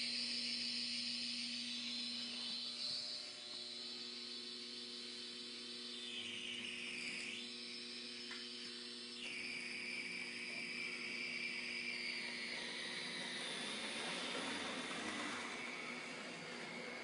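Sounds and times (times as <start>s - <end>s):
model train motor whine: 0.0s - 17.0s
steady low hum: 0.0s - 17.0s.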